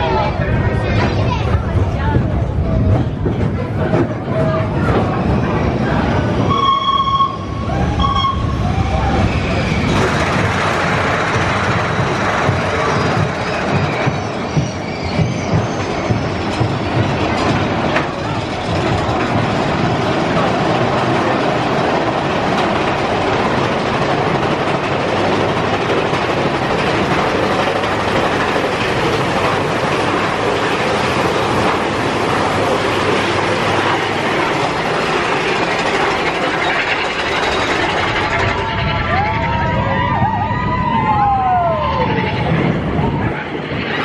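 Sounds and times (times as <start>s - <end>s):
roller coaster wheels clattering: 0.0s - 44.0s.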